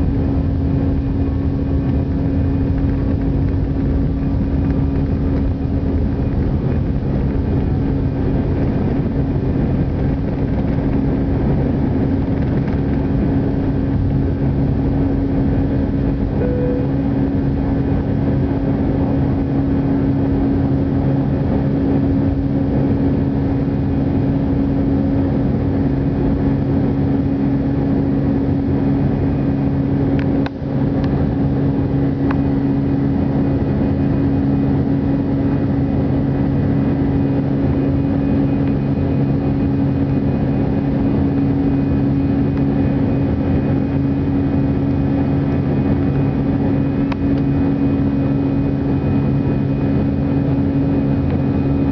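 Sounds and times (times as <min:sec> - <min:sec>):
jet engine drone: 0:00.0 - 0:51.9.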